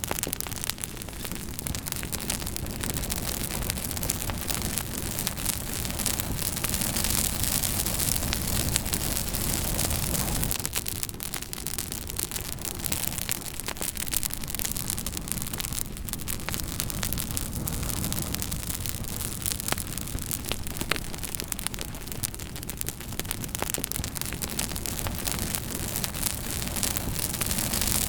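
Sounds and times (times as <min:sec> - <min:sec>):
campfire crackling and popping: 0:00.0 - 0:28.0
hiss of burning fire: 0:00.0 - 0:28.0.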